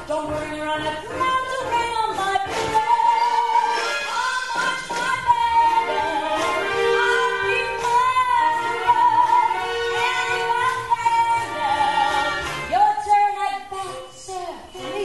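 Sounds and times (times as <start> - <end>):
instrumental accompaniment: 0.0 - 15.0
woman singing with vibrato: 0.0 - 15.0.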